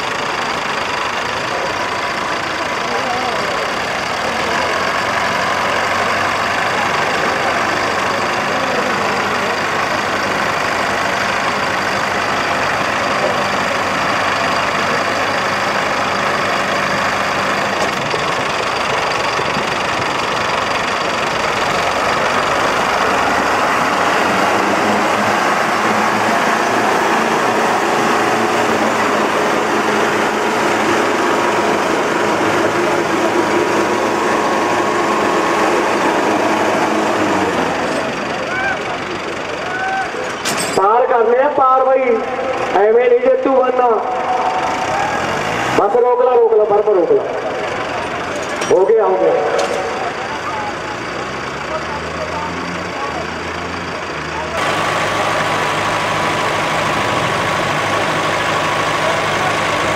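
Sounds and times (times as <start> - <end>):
diesel tractor engines labouring: 0.0 - 59.9.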